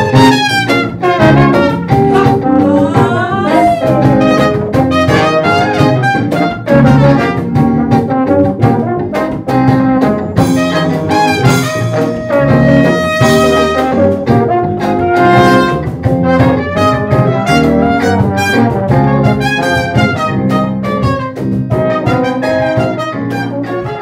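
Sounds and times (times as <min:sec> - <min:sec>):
live band playing: 0:00.0 - 0:24.0
low brass horn: 0:00.0 - 0:24.0
trumpet: 0:00.0 - 0:24.0.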